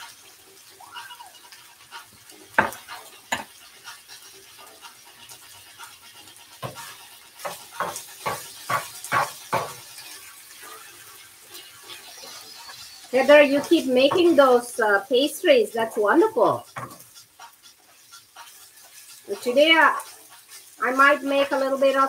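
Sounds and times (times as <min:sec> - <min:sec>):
low sizzle in a frying pan: 0:00.0 - 0:22.0
spatula knocking and scraping pan: 0:01.3 - 0:22.0.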